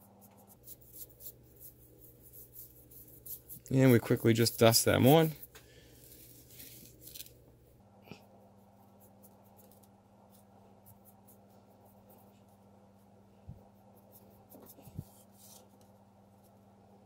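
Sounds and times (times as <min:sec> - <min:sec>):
paintbrush scratching on foam board: 0:00.0 - 0:07.3, 0:08.2 - 0:16.7
steady low hum: 0:00.0 - 0:17.0.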